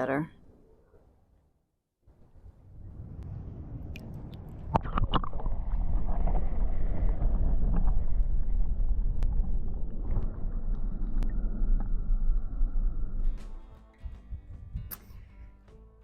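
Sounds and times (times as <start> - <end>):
wind buffeting microphone: 2.3 - 15.2.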